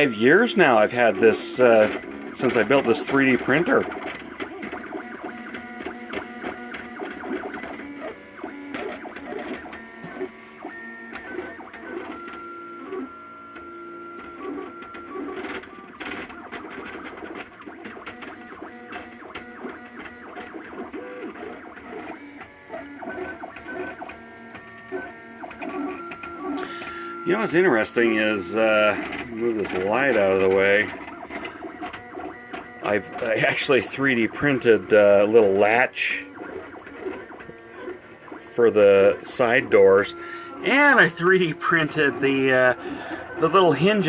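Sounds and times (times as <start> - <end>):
faint printer clicks: 0.0 - 44.0
stepper motors singing tones: 0.0 - 44.0.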